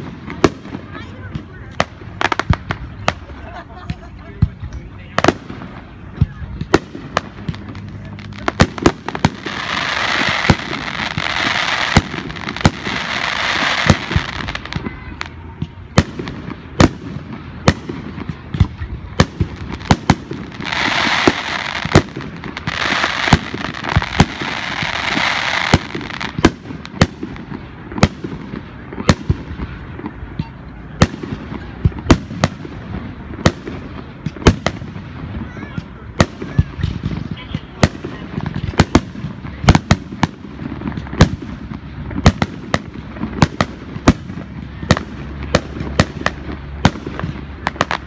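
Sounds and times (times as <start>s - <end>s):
fireworks bangs: 0.0s - 48.0s
fireworks hissing: 0.0s - 48.0s.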